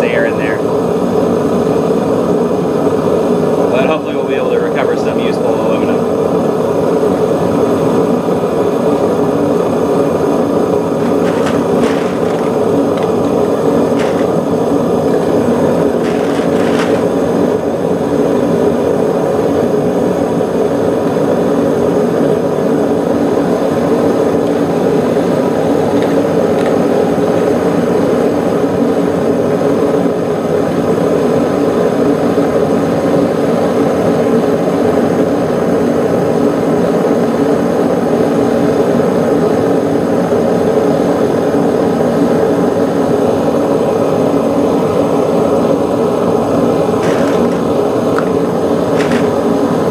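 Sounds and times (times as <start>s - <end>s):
furnace burner rushing: 0.0s - 49.9s.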